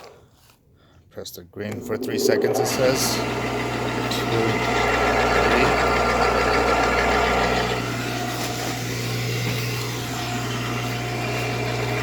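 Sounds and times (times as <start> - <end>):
wood chipper motor humming: 1.7 - 12.0.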